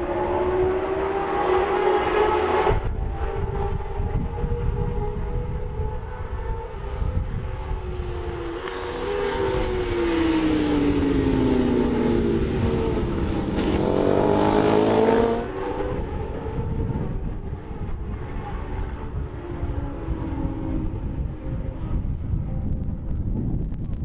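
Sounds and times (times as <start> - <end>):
racing motorcycles passing: 0.0 - 23.2.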